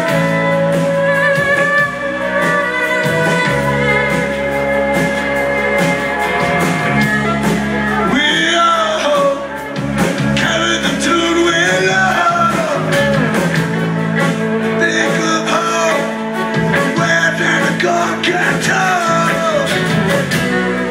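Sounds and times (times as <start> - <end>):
live band playing: 0.0 - 20.9
person singing: 0.0 - 20.9.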